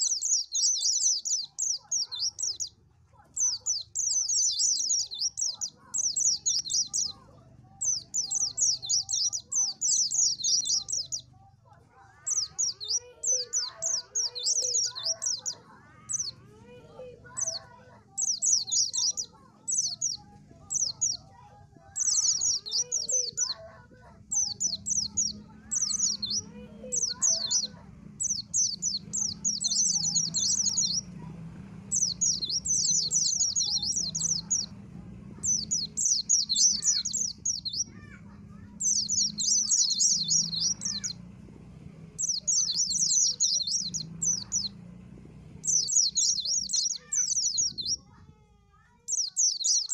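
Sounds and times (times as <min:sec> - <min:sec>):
lower bird chirps: 0:00.0 - 0:11.4, 0:12.0 - 0:31.3, 0:31.9 - 0:41.2, 0:42.2 - 0:44.8, 0:45.5 - 0:48.2, 0:48.8 - 0:49.9
bird twittering: 0:00.0 - 0:31.3, 0:31.9 - 0:41.2, 0:42.2 - 0:44.8, 0:45.6 - 0:48.2, 0:49.0 - 0:49.9.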